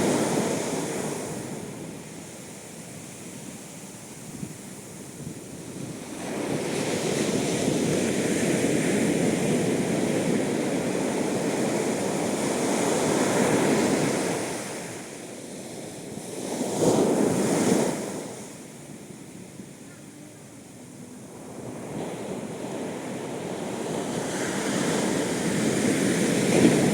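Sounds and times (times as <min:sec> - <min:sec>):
ocean waves breaking on beach: 0:00.0 - 0:26.9.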